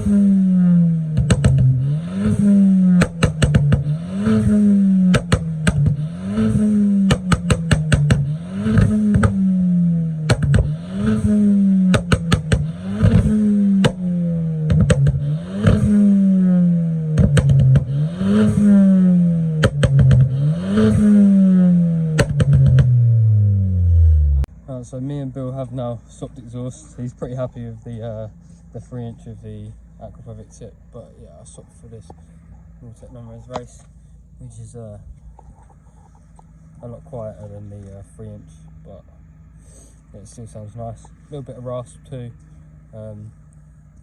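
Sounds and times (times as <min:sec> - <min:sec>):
exhaust crackles and pops: 0:00.0 - 0:24.6, 0:25.7 - 0:44.0
car engine revving: 0:00.0 - 0:44.0.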